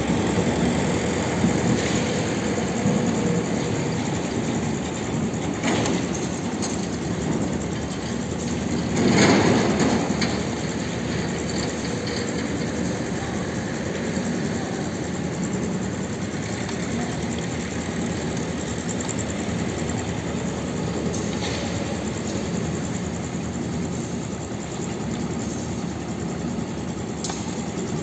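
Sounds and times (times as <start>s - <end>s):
machine running steadily: 0.0s - 28.0s.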